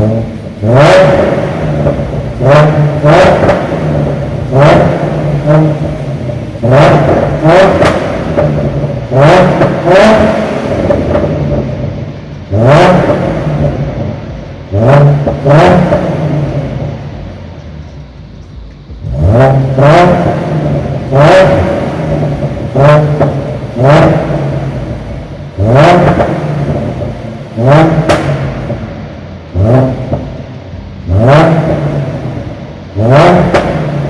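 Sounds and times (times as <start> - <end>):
car engine revving from idle: 0.0 - 34.0.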